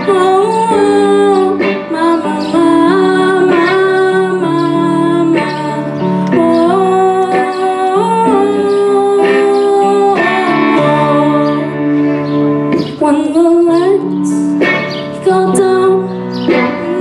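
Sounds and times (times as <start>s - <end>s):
boy singing into a microphone: 0.0s - 12.0s, 12.7s - 17.0s
electric guitar chords: 0.0s - 17.0s.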